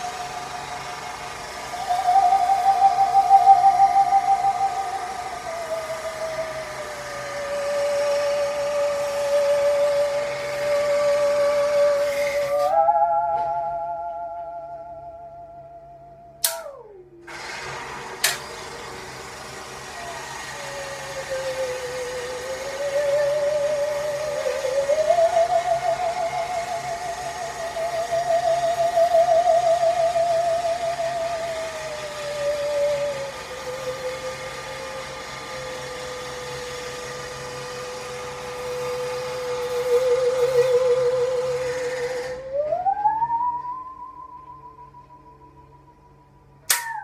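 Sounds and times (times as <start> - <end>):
singing saw wavering note: 0.0 - 17.4, 19.8 - 47.0
construction machinery drone: 0.0 - 47.0.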